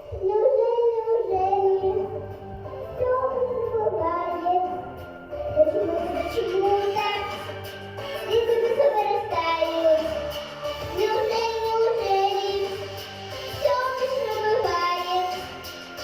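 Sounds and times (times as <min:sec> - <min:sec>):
girl singing a children's song: 0:00.0 - 0:16.0
musical accompaniment: 0:01.1 - 0:16.0.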